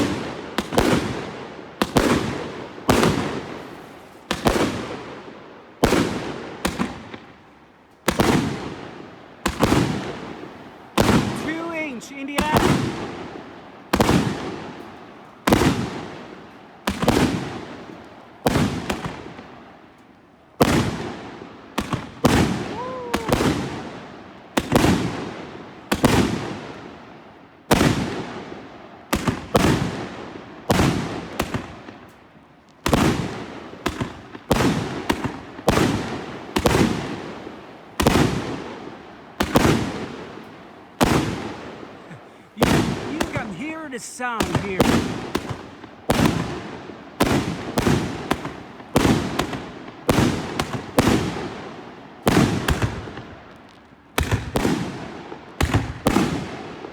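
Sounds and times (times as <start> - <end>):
fireworks bangs with echo: 0.0 - 19.8, 20.6 - 56.9.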